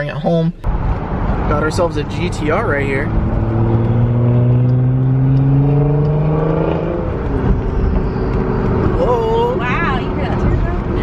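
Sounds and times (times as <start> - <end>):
car engine accelerating hard: 0.7 - 11.0.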